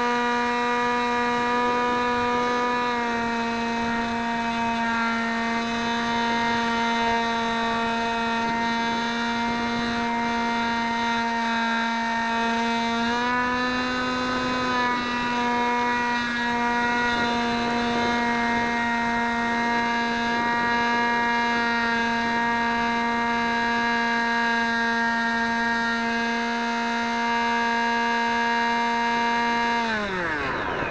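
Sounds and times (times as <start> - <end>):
model aircraft motor whine: 0.0 - 30.9.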